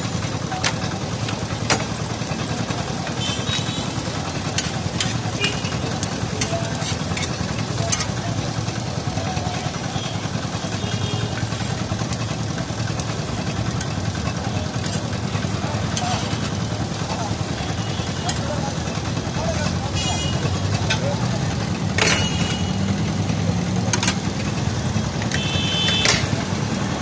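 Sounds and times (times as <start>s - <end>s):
street traffic hum: 0.0s - 27.0s.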